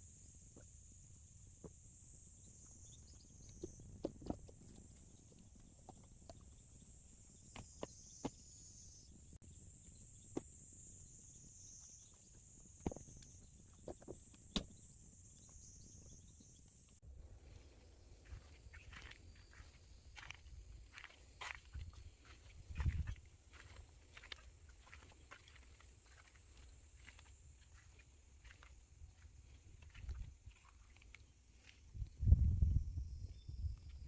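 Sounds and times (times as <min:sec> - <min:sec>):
insect chorus chirring: 0:00.0 - 0:34.0.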